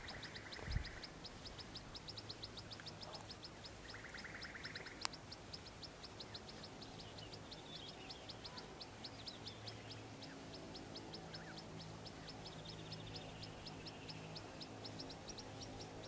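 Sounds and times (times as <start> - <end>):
faint calls: 0.0 - 16.0
steady low hum: 0.0 - 16.0.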